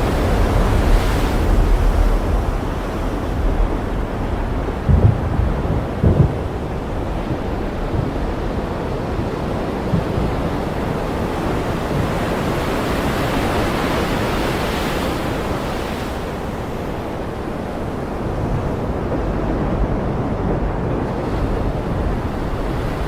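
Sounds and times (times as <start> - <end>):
ocean surf washing: 0.0 - 23.0.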